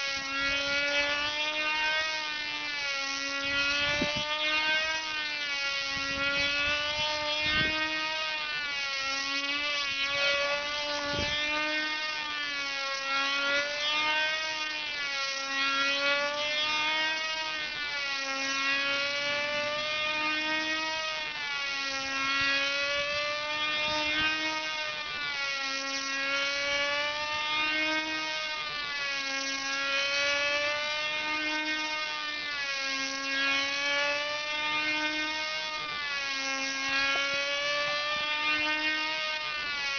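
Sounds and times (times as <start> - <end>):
model airplane engines whining: 0.0 - 39.9.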